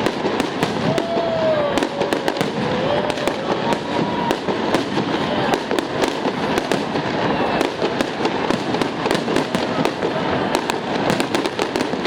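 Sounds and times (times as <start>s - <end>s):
fireworks bangs and pops: 0.0s - 12.0s
fireworks crackling: 0.0s - 12.0s.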